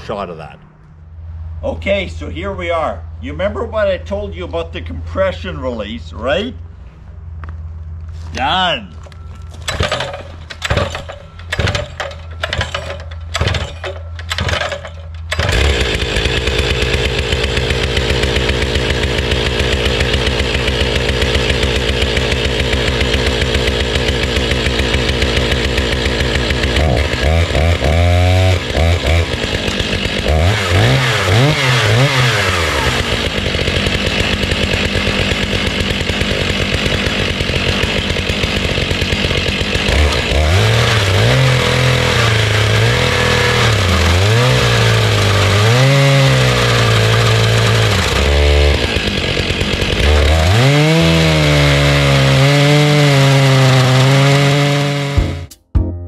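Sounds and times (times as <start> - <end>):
chainsaw cutting log: 9.7 - 55.5
chainsaw pull-start strokes: 9.7 - 55.5.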